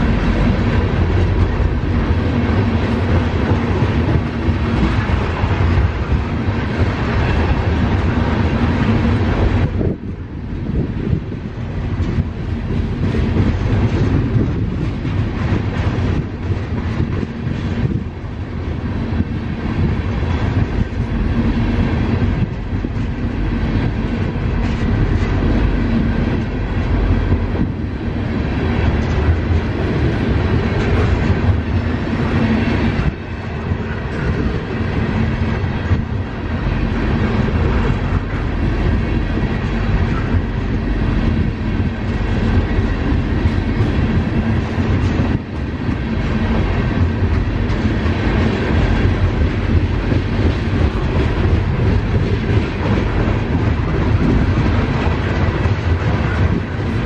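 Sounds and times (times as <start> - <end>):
wheels clacking over rail joints: 0.0 - 10.2, 11.0 - 57.0
train wheels rumbling on rails: 0.0 - 57.0.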